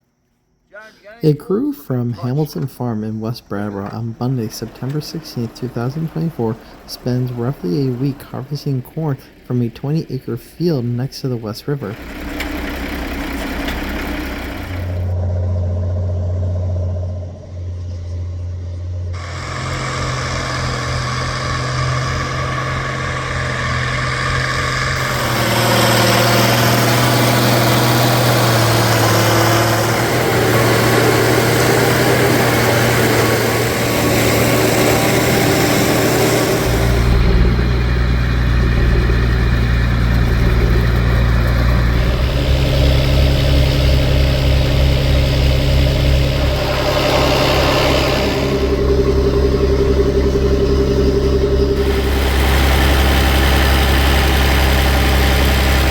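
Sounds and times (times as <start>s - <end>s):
farm machinery engines running: 1.2s - 55.9s
deep engine rumble: 1.6s - 55.9s
rushing mechanical noise: 2.3s - 55.9s.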